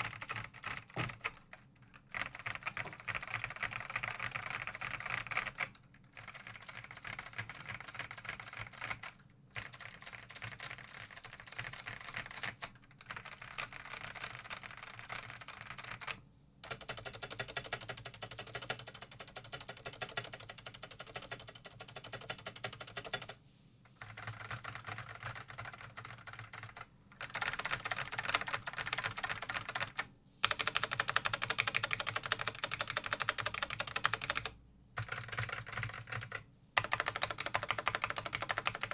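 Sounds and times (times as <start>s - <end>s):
keyboard typing: 0.0s - 1.5s, 2.1s - 23.4s, 24.0s - 38.9s.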